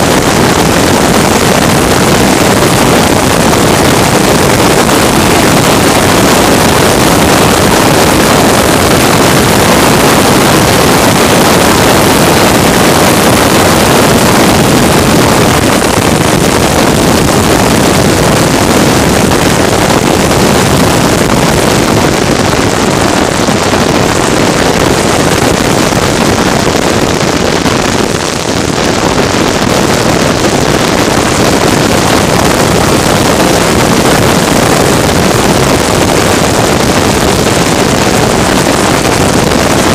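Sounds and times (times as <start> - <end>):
wind rushing on microphone: 0.0 - 39.9.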